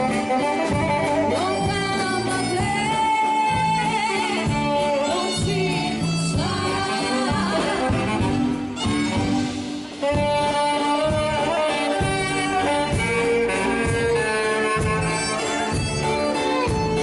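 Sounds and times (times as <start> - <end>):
live band instrumental: 0.0 - 17.0.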